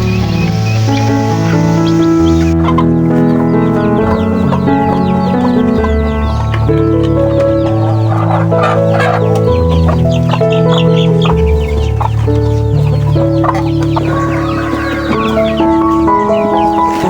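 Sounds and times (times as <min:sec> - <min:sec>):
background music of held notes: 0:00.0 - 0:17.0
chickens clucking: 0:00.0 - 0:17.0.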